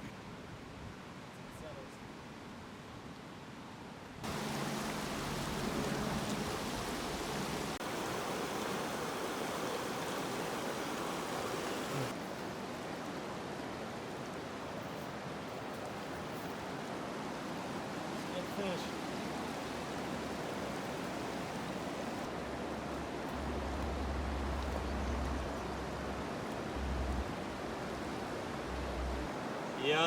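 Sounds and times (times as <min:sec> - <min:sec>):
rushing river water: 0:01.9 - 0:30.0.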